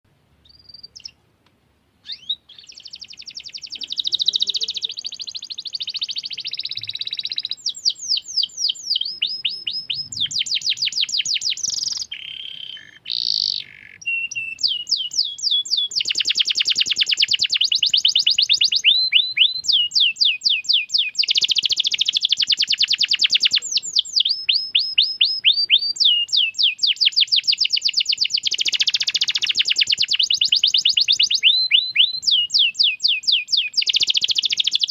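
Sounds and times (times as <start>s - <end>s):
canary singing trills: 0.4s - 1.2s, 2.0s - 34.9s.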